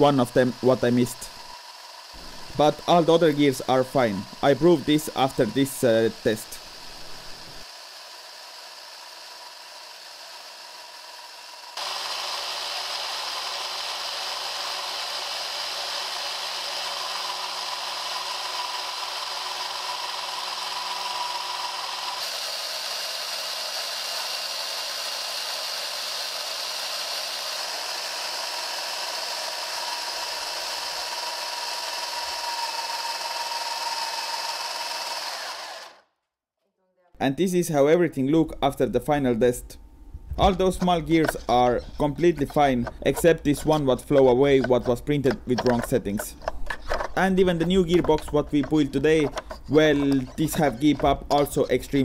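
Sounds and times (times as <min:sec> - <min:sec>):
small motors whining with gear noise: 0:00.0 - 0:36.1, 0:40.3 - 0:52.0.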